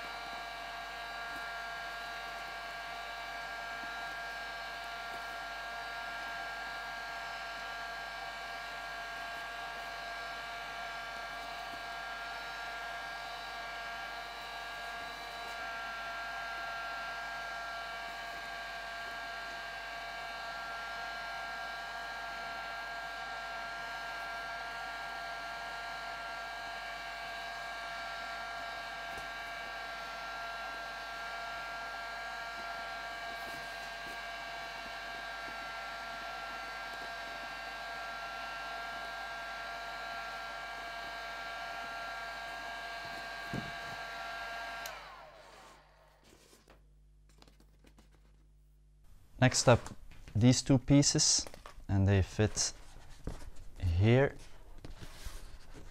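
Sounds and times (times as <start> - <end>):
heat gun blowing air: 0.0 - 46.2.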